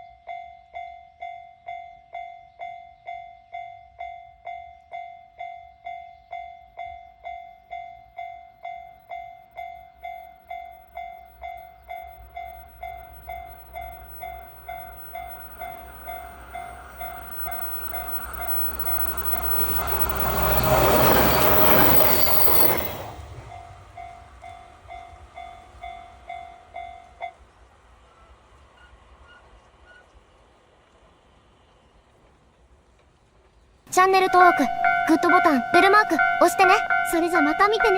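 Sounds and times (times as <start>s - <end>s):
railroad crossing bell clanging: 0.1s - 27.4s, 34.0s - 37.9s
electric train passing: 3.4s - 37.9s.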